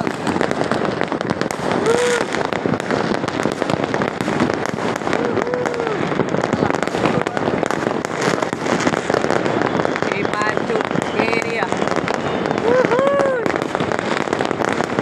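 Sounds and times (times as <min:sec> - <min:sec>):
fireworks and firecrackers crackling: 0:00.0 - 0:15.0.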